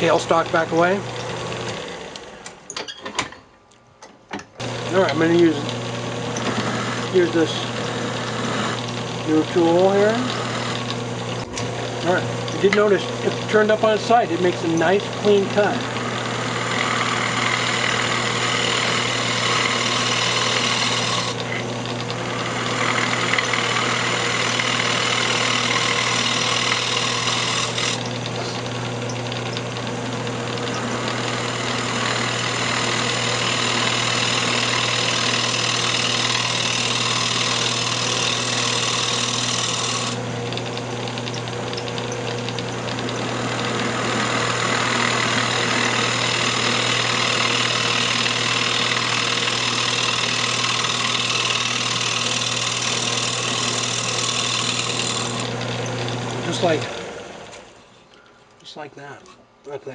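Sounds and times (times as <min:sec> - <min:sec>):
wood lathe humming: 0:00.0 - 0:02.6, 0:04.6 - 0:58.6
turning tool cutting wood: 0:00.0 - 0:02.7, 0:04.6 - 0:59.4.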